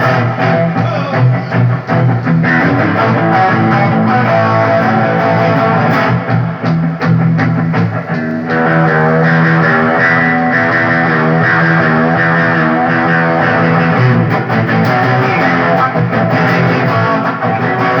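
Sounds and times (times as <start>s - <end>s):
electric guitar with bent notes: 0.0s - 18.0s.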